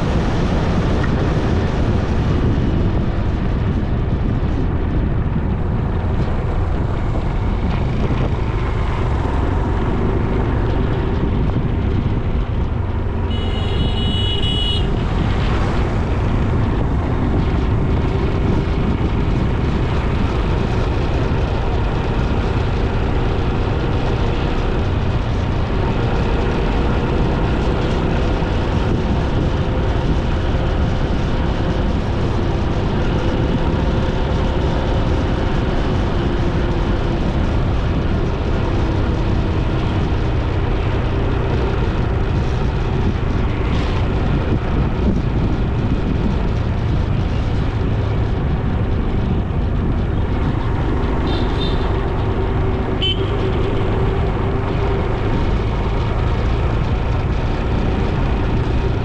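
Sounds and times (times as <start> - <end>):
motorcycle engine hum: 0.0 - 59.0
wind rush on microphone: 0.0 - 59.0.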